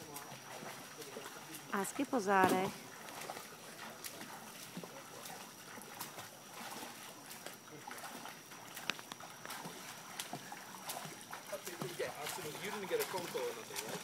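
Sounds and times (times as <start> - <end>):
light splashing of swimming: 0.0 - 14.0.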